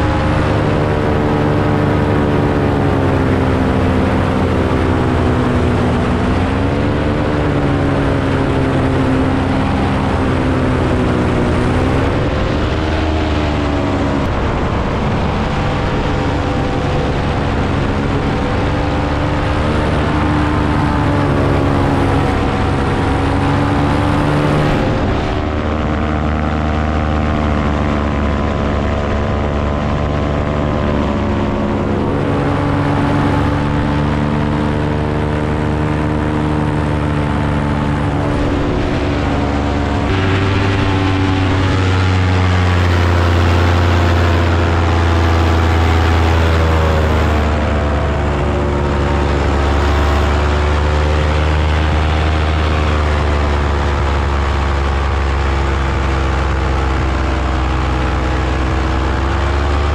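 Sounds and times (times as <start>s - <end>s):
paramotor engine and propeller: 0.0s - 59.9s.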